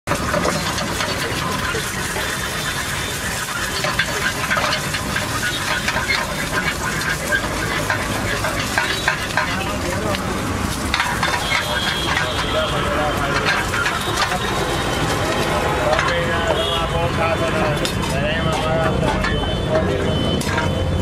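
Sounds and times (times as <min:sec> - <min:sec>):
eggs sizzling in pan: 0:00.0 - 0:21.0
metal spatula scraping pan: 0:00.1 - 0:21.0.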